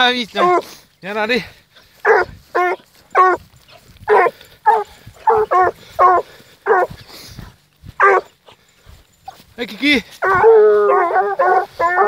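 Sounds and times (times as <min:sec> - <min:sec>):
hounds barking: 0:00.2 - 0:00.8, 0:01.7 - 0:12.0.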